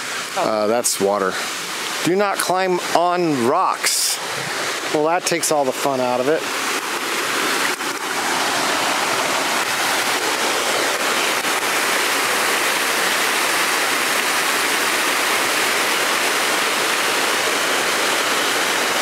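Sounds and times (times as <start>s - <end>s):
water cascading over rocks: 0.0s - 19.0s.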